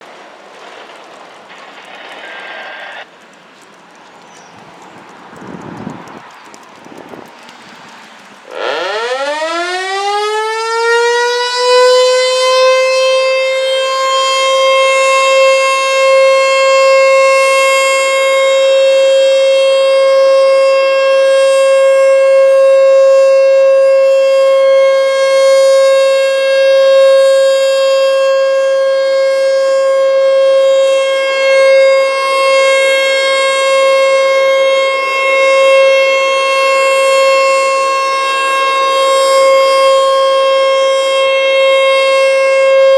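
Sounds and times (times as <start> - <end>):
outdoor warning siren winding up: 8.5 - 42.9.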